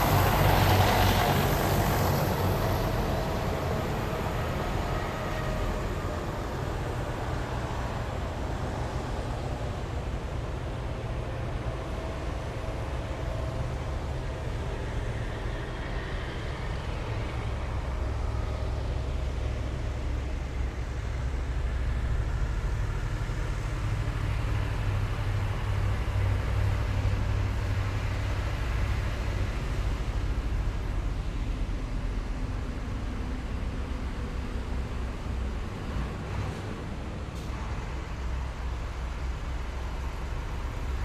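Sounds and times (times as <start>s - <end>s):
heavy vehicle engines rumbling: 0.0s - 41.0s.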